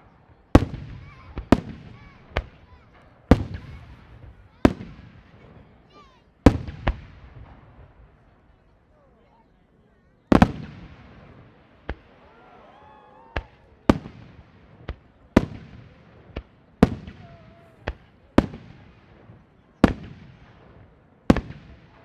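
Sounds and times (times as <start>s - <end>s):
fireworks bursting: 0.5s - 8.2s, 10.3s - 12.3s, 13.3s - 22.0s.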